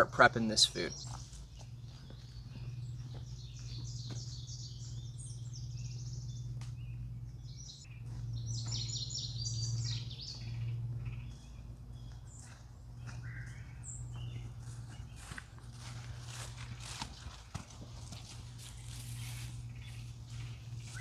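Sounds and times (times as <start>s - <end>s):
songbirds singing: 0.0s - 21.0s
steady low hum: 0.0s - 21.0s.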